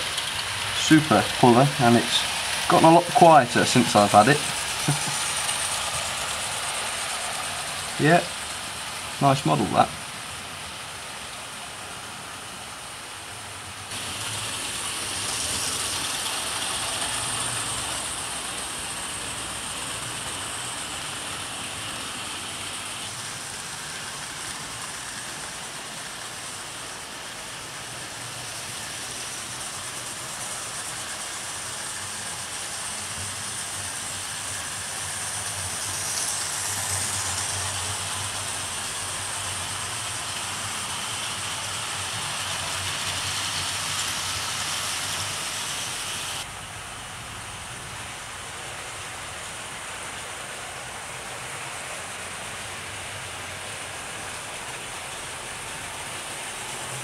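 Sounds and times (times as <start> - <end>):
model train motors whirring: 0.0 - 57.0
wheels rumbling on rails: 0.0 - 57.0.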